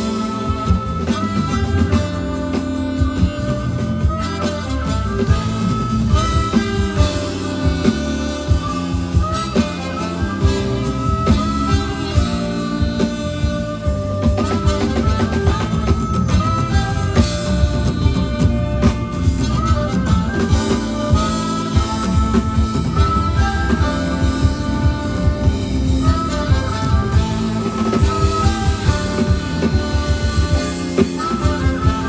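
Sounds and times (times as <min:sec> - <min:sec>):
drum kit beat: 0:00.0 - 0:32.0
electric guitar melody: 0:00.0 - 0:32.0.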